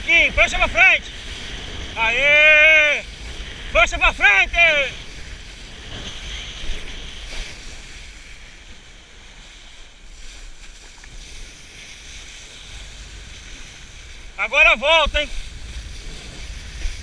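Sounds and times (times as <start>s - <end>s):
board hissing through water: 0.0s - 14.5s, 15.1s - 17.0s
wind rumble on microphone: 0.0s - 17.0s.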